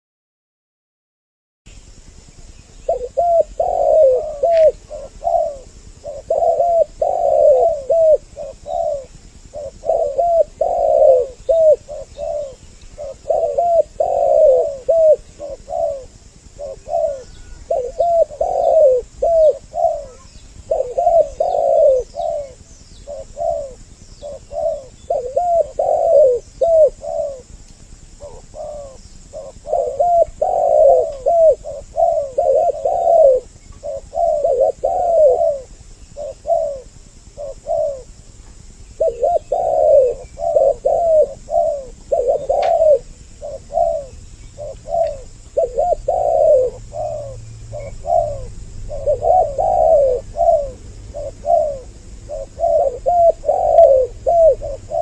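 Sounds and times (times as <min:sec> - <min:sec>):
doves cooing: 0:02.3 - 0:55.0.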